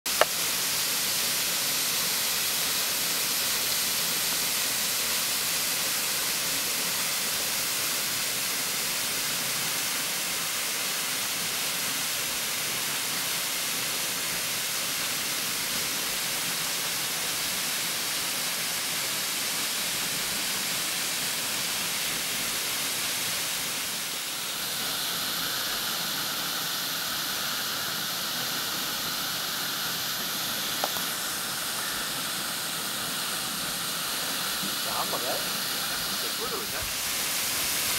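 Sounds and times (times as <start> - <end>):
waterfall rushing: 0.1 - 37.9.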